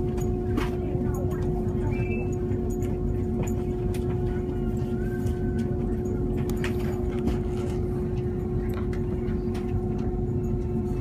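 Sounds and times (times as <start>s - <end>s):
even hum: 0.0s - 11.0s
train interior rumble: 0.0s - 11.0s.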